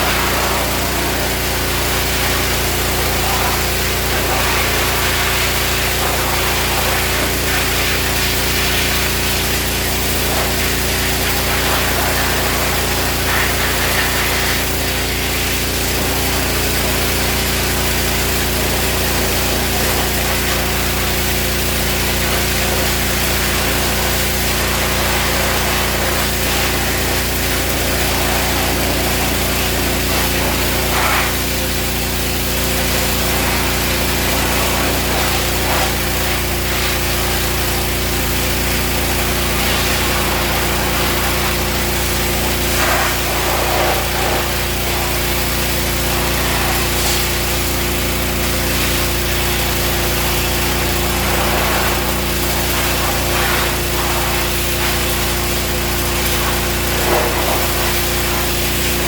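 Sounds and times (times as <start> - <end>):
pressure washer engine running: 0.0 - 59.0.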